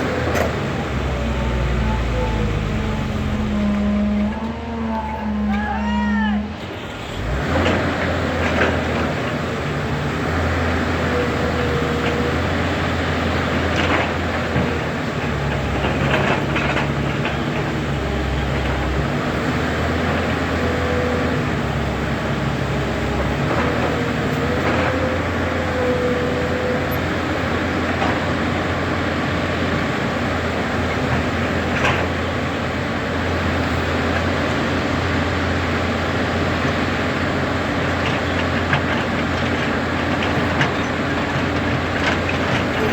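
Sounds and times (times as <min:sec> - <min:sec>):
excavator diesel engine droning: 0:00.0 - 0:42.9.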